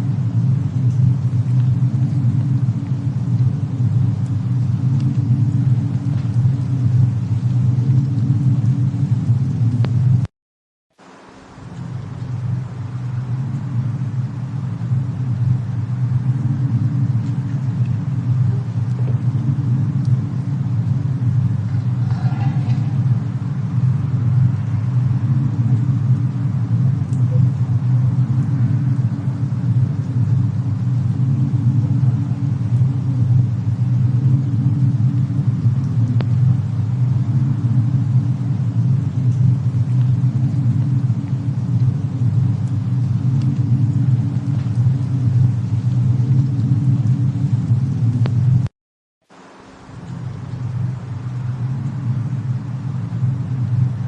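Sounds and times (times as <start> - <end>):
steady low rumble: 0.0 - 10.3, 11.0 - 48.7, 49.3 - 54.0
faint crackles: 0.2 - 10.3, 11.0 - 48.7, 49.3 - 54.0.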